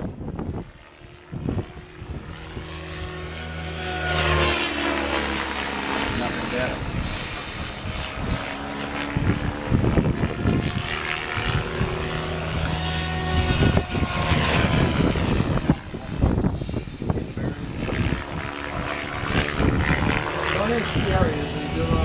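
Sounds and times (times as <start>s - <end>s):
wind buffeting microphone: 0.0s - 3.3s, 6.0s - 22.0s
radio-controlled helicopter whine: 0.0s - 22.0s.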